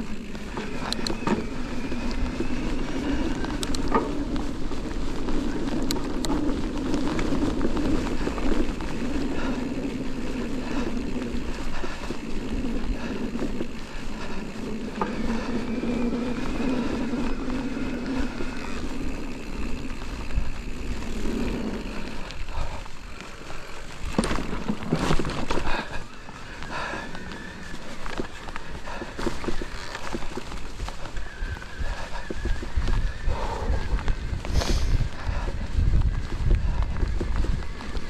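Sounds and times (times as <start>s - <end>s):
bike rattling: 0.0s - 38.0s
tyres rolling over trail: 0.0s - 38.0s.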